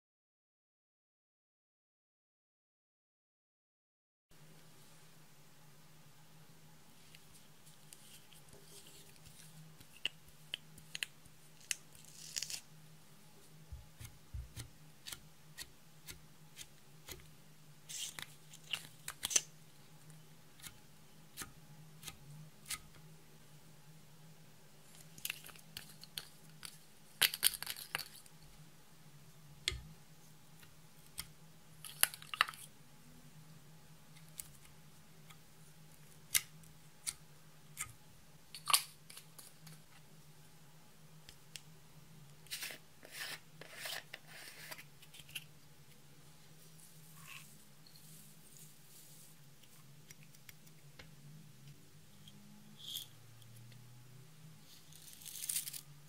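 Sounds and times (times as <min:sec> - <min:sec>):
faint low hum: 0:04.3 - 0:56.0.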